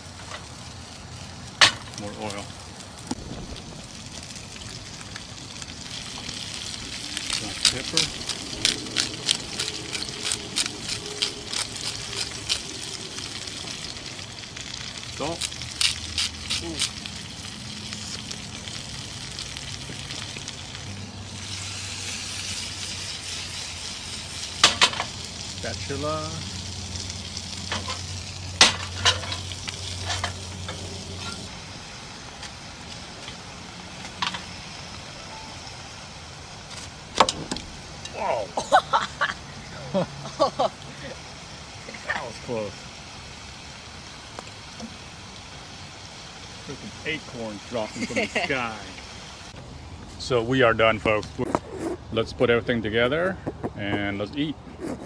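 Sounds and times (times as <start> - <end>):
faint pan sizzle: 0.0 - 49.6.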